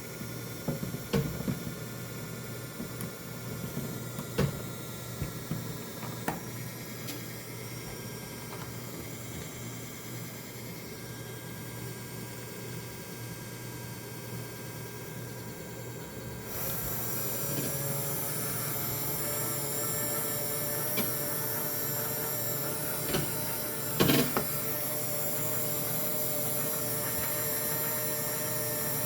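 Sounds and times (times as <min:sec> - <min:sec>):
washing machine motor whirring: 0:00.0 - 0:29.0.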